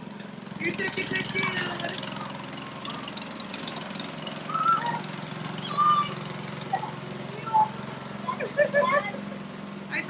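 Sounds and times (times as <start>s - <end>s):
small engine humming: 0.0s - 10.0s.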